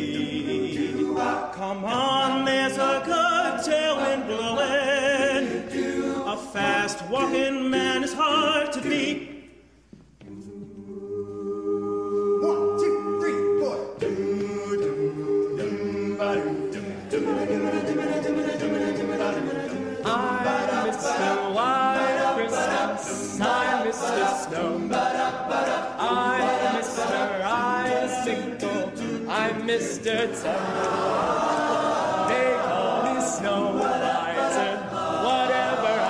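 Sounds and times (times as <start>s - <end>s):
group singing a cappella: 0.0s - 36.0s.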